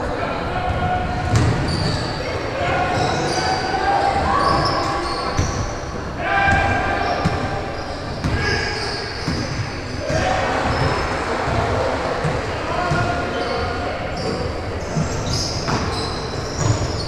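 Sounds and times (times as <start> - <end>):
voices in echoing hall: 0.0 - 17.0.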